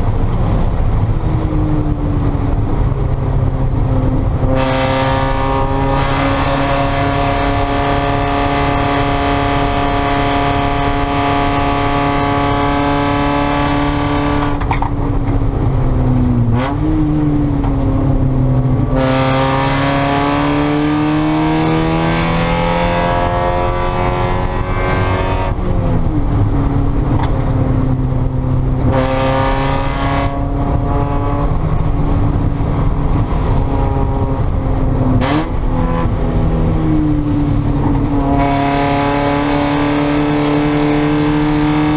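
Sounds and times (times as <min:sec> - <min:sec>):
car engine revving hard: 0:04.2 - 0:15.0, 0:18.6 - 0:41.9.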